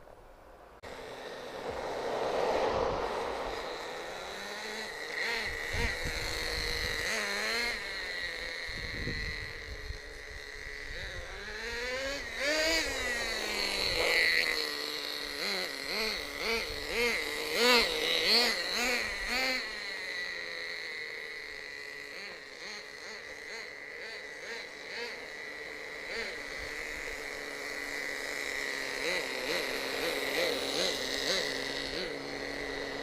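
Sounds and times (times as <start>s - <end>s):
small nitro engine revving: 0.0s - 33.0s.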